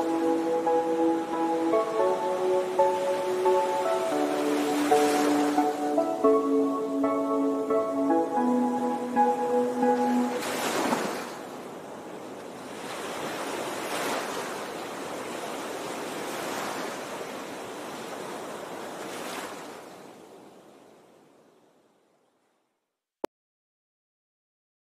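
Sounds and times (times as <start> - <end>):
ocean waves washing in: 0.0 - 21.7.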